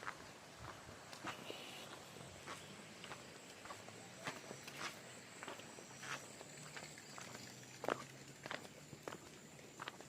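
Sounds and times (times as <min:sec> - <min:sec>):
quiet footsteps walking: 0:00.0 - 0:10.0.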